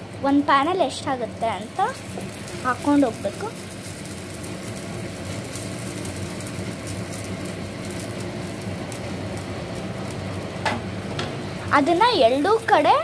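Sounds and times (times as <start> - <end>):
pancakes frying sizzle: 0.0 - 13.0.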